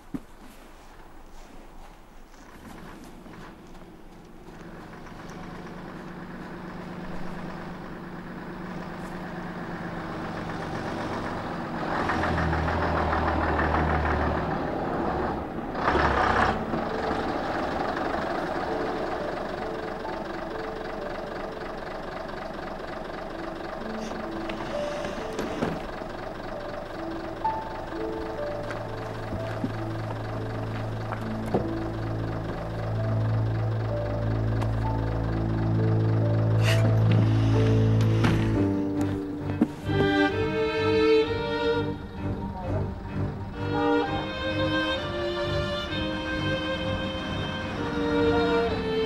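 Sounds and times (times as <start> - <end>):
bus engine running: 0.0 - 49.0.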